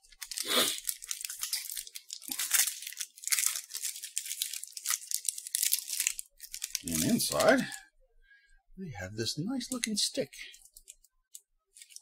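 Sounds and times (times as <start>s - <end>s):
plastic wrapper crinkling and tearing: 0.0s - 7.8s, 9.7s - 12.0s.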